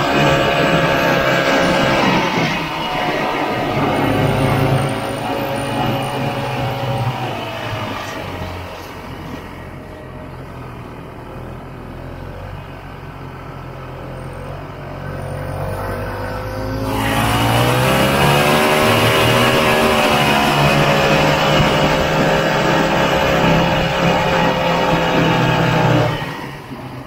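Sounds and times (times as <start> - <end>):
snowmobile engine running: 0.0 - 12.5, 15.1 - 27.0.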